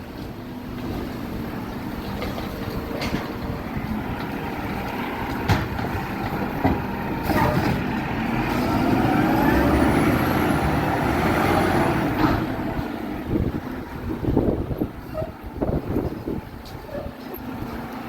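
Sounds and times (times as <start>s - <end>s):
garbage truck engine rumble: 0.0s - 18.0s.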